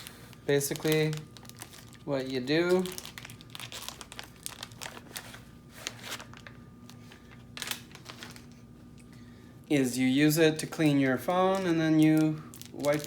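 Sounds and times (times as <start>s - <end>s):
plastic wrapping crinkling: 0.0s - 9.1s, 10.6s - 13.0s.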